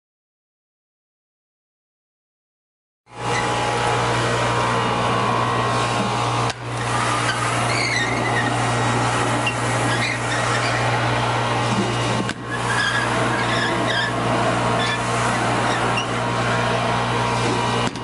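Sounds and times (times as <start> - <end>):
industrial vacuum running: 3.1 - 18.0.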